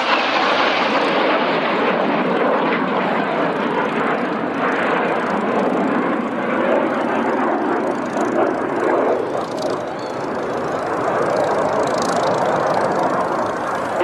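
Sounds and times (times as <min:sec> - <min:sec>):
jet aircraft flying overhead: 0:00.0 - 0:14.0.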